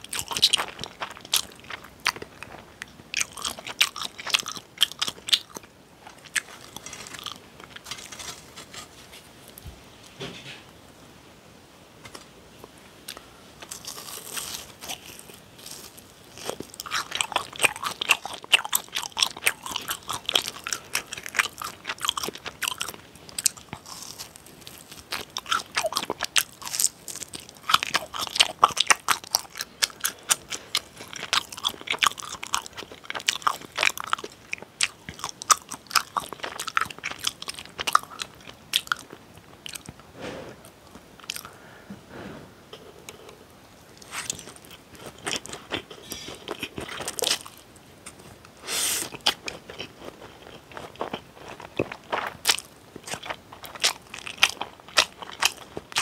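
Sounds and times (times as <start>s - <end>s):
crunching and chewing crispy food: 0.0s - 9.6s, 13.1s - 40.1s, 40.7s - 41.6s, 43.8s - 56.0s.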